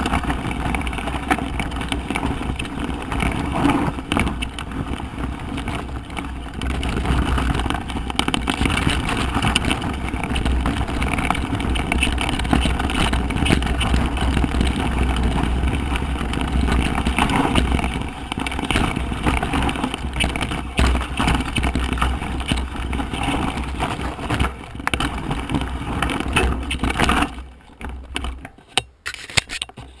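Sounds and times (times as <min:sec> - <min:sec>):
wind rush on microphone: 0:00.0 - 0:28.5
bike rattling over stones: 0:00.0 - 0:30.0.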